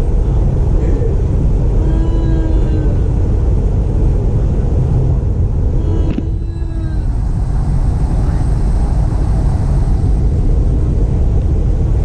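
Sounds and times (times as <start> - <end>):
faint whine: 0.0 - 12.0
train rumbling in motion: 0.0 - 12.0.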